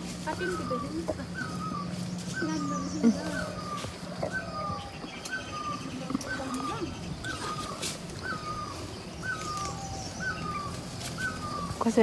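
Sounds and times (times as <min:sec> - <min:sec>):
bird whistling call: 0:00.4 - 0:12.0.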